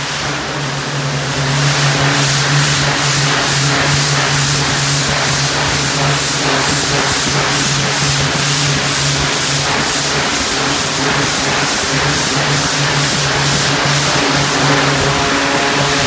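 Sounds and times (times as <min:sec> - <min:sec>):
pressure washer spraying: 0:00.0 - 0:16.0
steady low hum: 0:00.0 - 0:16.0.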